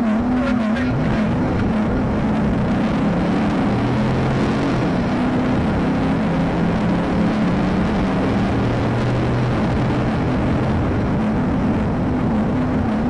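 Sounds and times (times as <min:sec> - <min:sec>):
road and wind noise: 0:00.0 - 0:13.0
vehicle engine running hard: 0:00.0 - 0:13.0.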